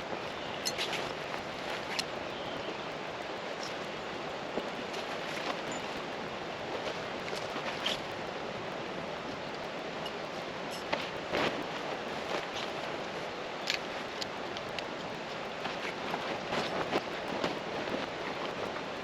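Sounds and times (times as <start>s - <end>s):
rushing outdoor noise: 0.0s - 19.0s.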